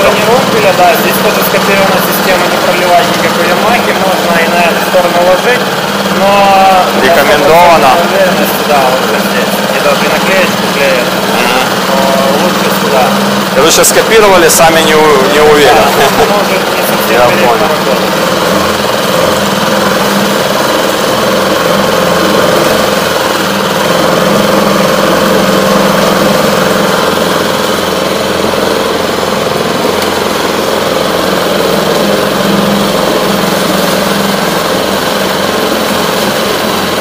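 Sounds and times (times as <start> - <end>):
outboard motor idling: 0.0 - 37.0.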